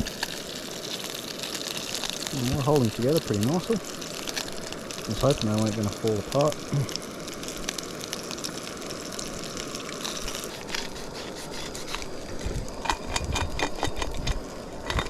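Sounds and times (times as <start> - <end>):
fish frying in hot oil: 0.0 - 15.0.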